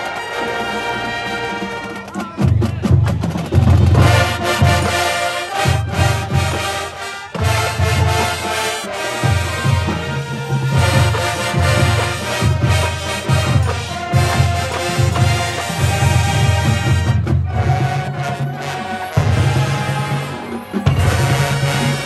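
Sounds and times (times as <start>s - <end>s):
brass chords: 0.0s - 2.3s, 3.9s - 22.0s
marching band playing: 0.0s - 22.0s
drum strokes: 1.5s - 22.0s.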